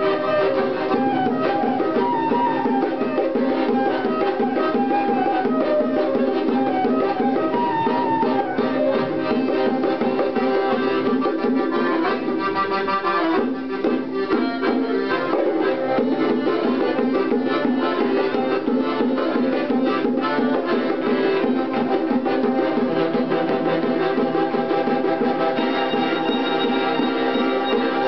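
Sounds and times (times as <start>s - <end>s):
band playing live: 0.0s - 28.0s.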